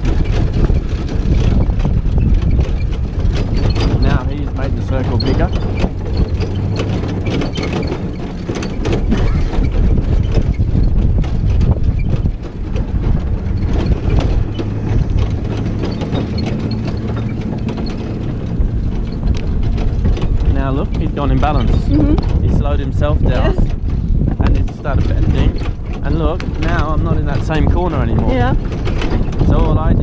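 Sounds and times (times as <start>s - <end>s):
carriage and harness rattling: 0.0s - 30.0s
carriage wheels rumbling: 0.0s - 30.0s
horse hoofbeats: 0.0s - 30.0s.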